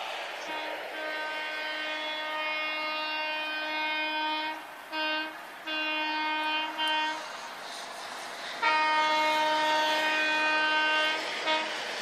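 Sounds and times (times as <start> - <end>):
train horn blasts: 0.0 - 12.0.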